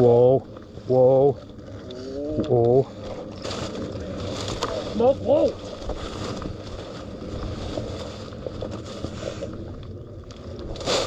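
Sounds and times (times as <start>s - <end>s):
faint rustles and ticks: 0.0s - 10.8s
wind rumbling on microphone: 0.0s - 11.0s.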